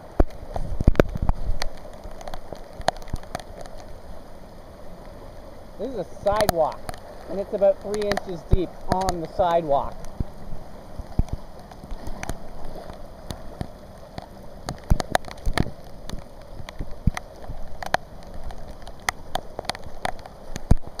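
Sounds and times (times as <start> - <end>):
heavy rain on pavement: 0.0 - 21.0
raindrops tapping close by: 0.0 - 21.0.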